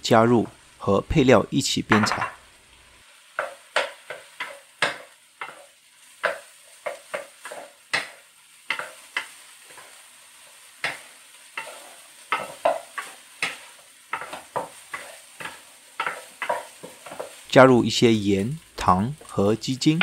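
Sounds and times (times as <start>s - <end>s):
faint sizzle: 0.0s - 20.0s
wooden spatula scraping wok: 3.4s - 20.0s.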